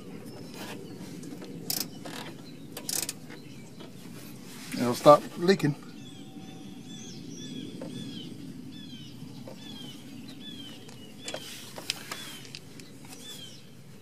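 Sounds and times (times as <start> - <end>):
bird chirping: 0.0 - 4.9, 5.8 - 13.8
low background hum: 0.0 - 14.0.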